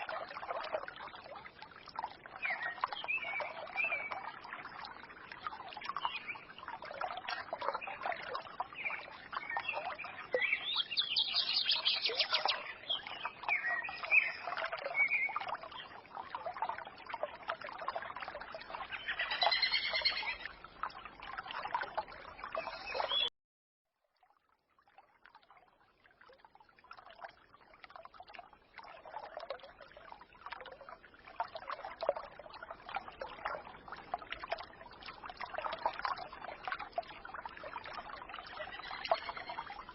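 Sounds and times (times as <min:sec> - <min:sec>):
stream trickling: 0:00.0 - 0:23.3, 0:23.9 - 0:39.9.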